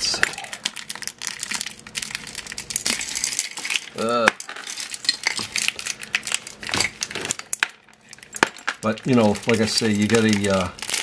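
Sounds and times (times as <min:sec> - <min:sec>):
jewelry clinking in glass jar: 0:00.0 - 0:11.0.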